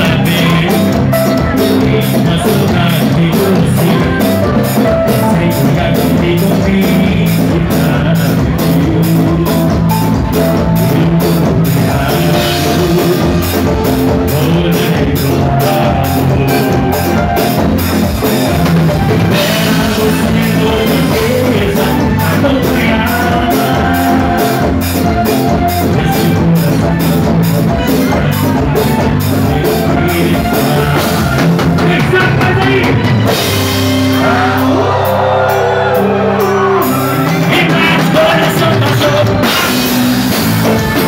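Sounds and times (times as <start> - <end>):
harmonica lead notes: 0.0 - 41.0
live band playing: 0.0 - 41.0.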